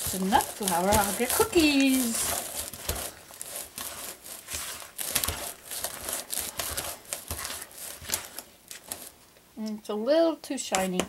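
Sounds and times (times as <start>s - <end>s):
dough mixed by hand in bowl: 0.0s - 9.2s.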